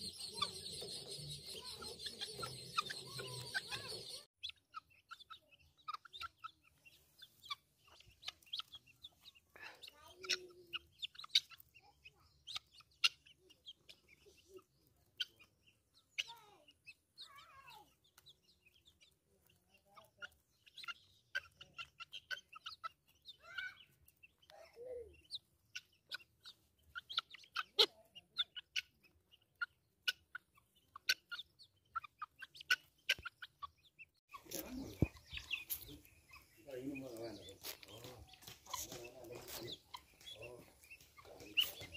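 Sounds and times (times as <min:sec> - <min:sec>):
chicks chirping and clucking: 0:00.0 - 0:41.9
chicks pecking at grass: 0:00.0 - 0:41.9.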